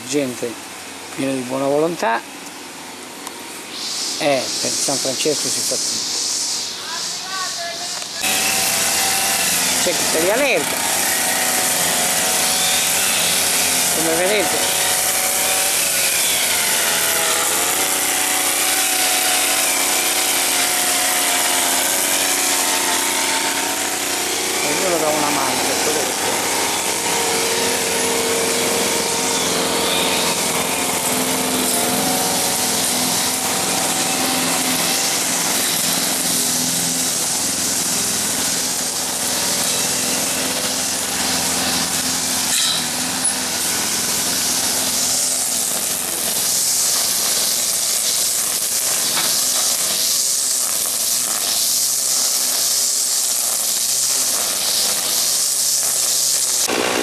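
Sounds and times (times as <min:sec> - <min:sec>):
lawn mower engine running: 0:08.0 - 0:52.6, 0:53.2 - 0:57.0
brush cutter rasping: 0:08.1 - 0:57.0.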